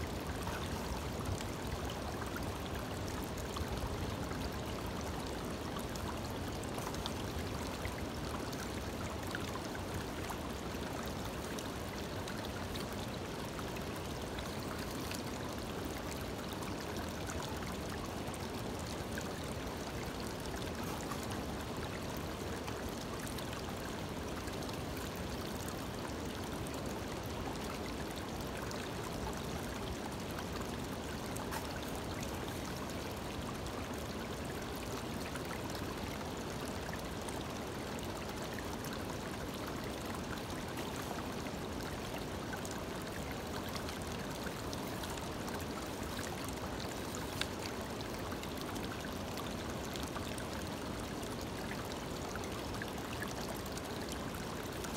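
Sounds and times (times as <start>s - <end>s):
creek water running over stones: 0.0s - 54.9s.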